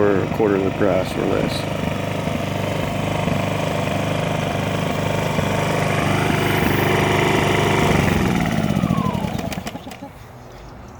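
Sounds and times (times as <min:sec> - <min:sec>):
generator engine running: 0:00.0 - 0:10.2.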